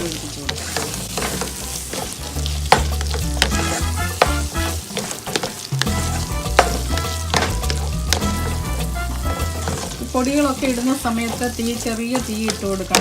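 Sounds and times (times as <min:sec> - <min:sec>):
masala sizzling in a pan: 0:00.0 - 0:13.0
spoon scraping against pan: 0:00.4 - 0:13.0.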